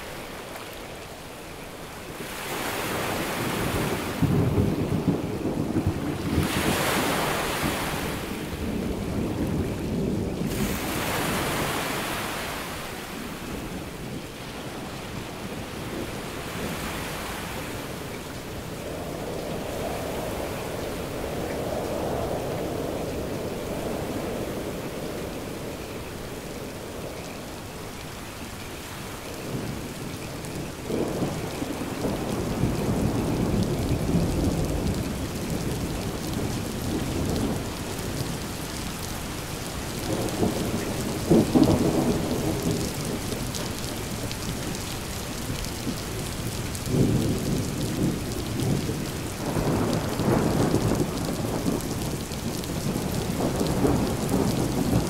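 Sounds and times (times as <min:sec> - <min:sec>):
steady rain: 0:00.0 - 0:55.0
thunder rumbling: 0:03.3 - 0:11.8, 0:17.6 - 0:28.0, 0:29.3 - 0:55.0.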